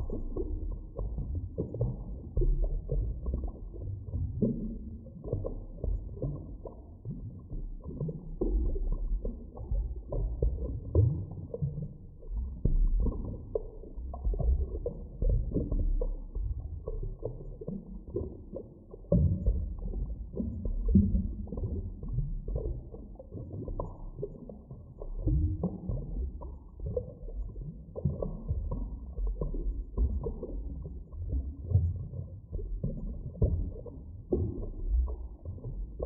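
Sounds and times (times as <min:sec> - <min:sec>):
deep underwater rumble: 0:00.0 - 0:36.0
underwater pops and gurgles: 0:00.0 - 0:36.0.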